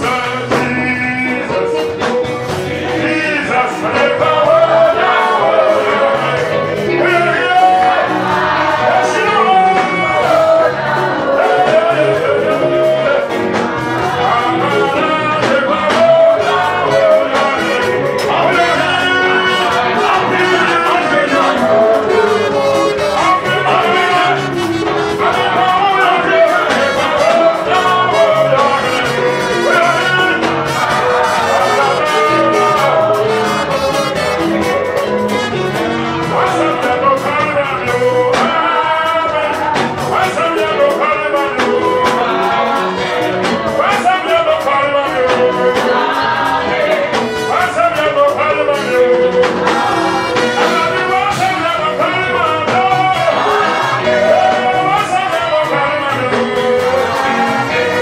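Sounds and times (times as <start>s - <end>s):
accompanying music with drums: 0.0s - 58.0s
man singing into microphone: 0.0s - 58.0s.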